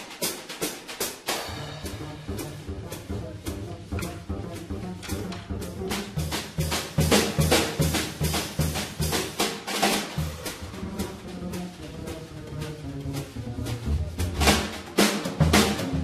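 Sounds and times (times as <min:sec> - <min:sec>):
drum kit playing: 0:00.0 - 0:16.0
double bass playing: 0:01.5 - 0:09.4, 0:10.0 - 0:16.0.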